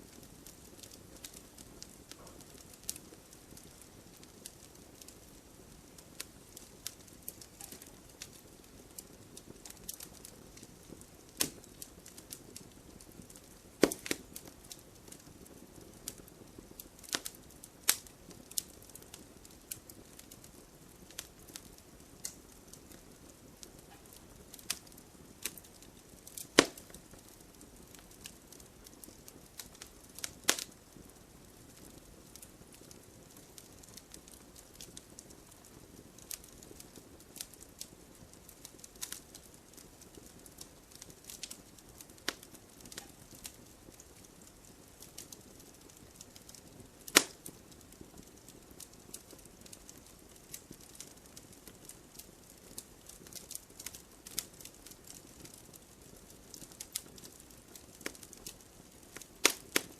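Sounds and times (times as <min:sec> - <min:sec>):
faint steady hiss: 0:00.0 - 0:59.9
firewood crackling and popping: 0:00.0 - 0:59.9.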